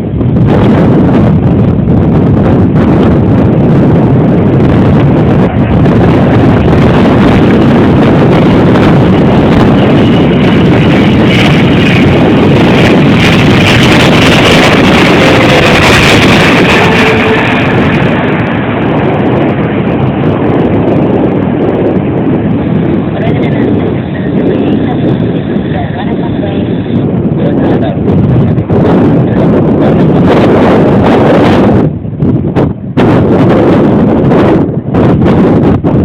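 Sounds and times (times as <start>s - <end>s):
jet engines at high thrust: 0.0s - 36.0s.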